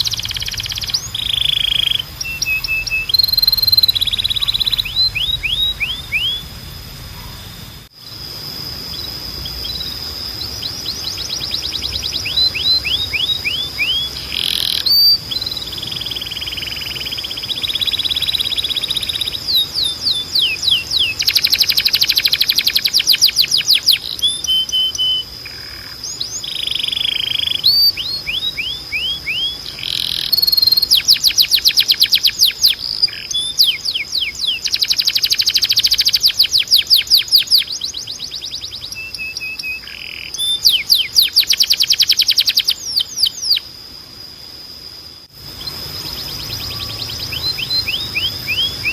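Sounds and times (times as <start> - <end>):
canary singing: 0.0 - 43.7, 45.4 - 48.9.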